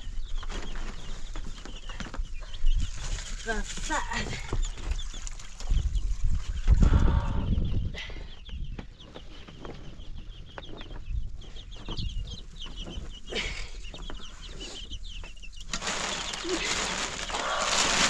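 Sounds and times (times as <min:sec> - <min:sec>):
chickens chirping and clucking: 0:00.0 - 0:18.0.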